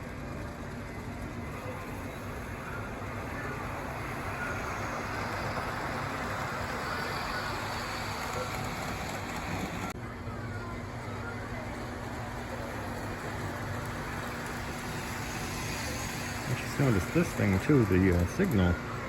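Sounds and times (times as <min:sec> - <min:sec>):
model train rolling on track: 0:00.0 - 0:19.0.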